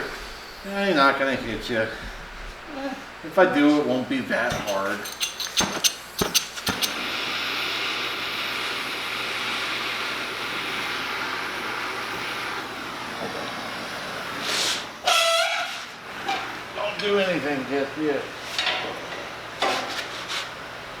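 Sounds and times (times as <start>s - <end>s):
gas torch flame hissing: 0.0s - 17.8s.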